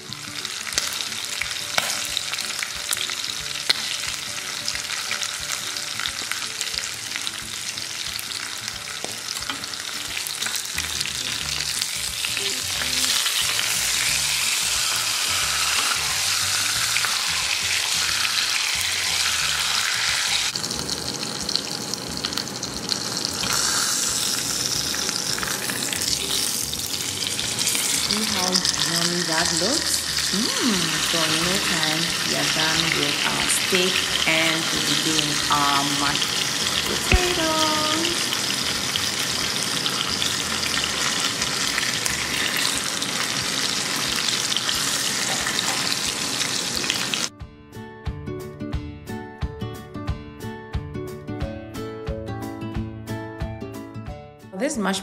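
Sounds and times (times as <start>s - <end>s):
steak sizzling in pan: 0.0s - 47.3s.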